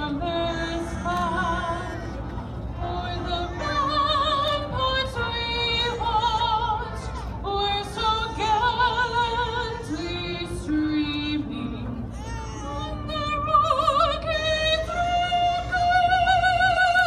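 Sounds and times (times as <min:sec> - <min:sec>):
woman singing with vibrato: 0:00.0 - 0:02.0, 0:02.8 - 0:17.0.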